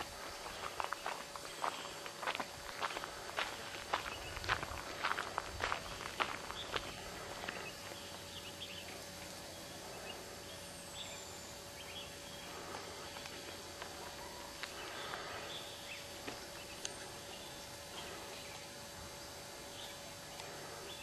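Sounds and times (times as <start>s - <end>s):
faint steady hum: 0.0s - 21.0s
steady background hiss: 0.0s - 21.0s.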